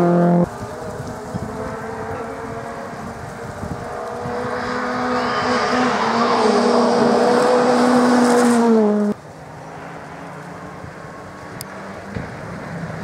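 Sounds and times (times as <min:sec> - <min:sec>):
distant car engine: 0:00.0 - 0:13.0
rally car engine at high revs: 0:00.0 - 0:13.0.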